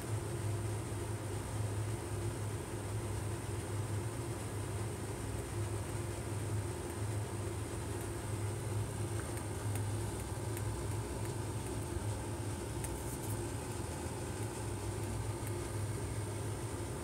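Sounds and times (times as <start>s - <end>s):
hvac blower humming: 0.0s - 17.0s.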